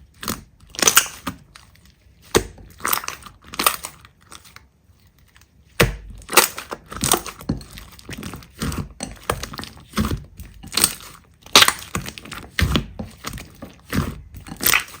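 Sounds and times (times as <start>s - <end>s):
slime squishing by hand: 0.0s - 15.0s.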